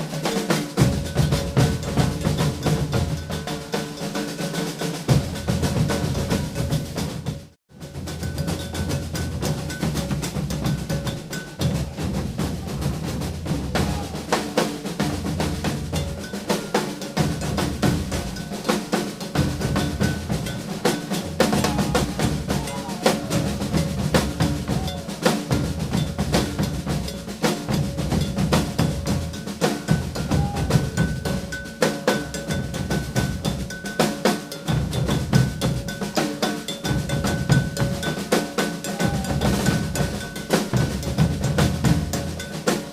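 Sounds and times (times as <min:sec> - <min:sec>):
bass drums: 0:00.0 - 0:03.8, 0:05.0 - 0:33.8, 0:34.7 - 0:36.2, 0:36.8 - 0:42.9
bell beating rhythm: 0:00.0 - 0:42.9
snare drums: 0:00.0 - 0:42.9.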